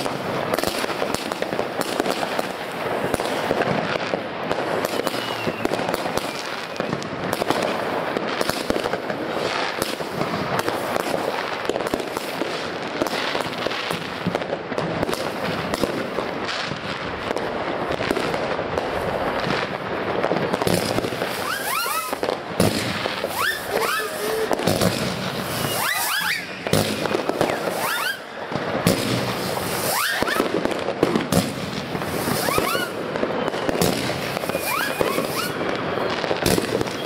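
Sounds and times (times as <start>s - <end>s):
firework whistles: 0.0s - 14.2s, 17.9s - 37.0s
fireworks crackling: 0.0s - 37.0s.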